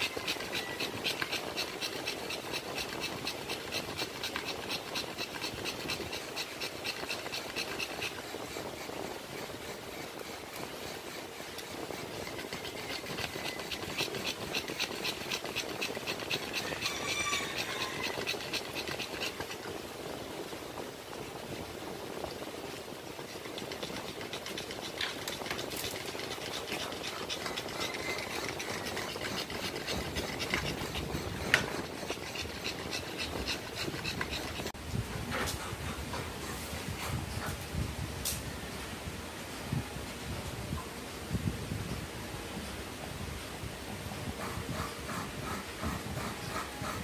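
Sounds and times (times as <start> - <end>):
dog panting rapidly: 0.0 - 20.1, 22.2 - 37.6, 44.3 - 47.0.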